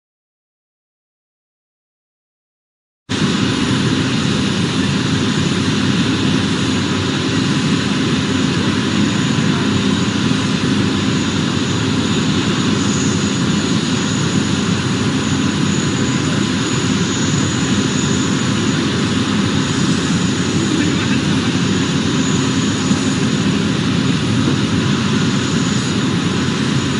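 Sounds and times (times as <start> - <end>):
jet engine running: 3.1 - 26.9
faint high whine: 3.2 - 26.9.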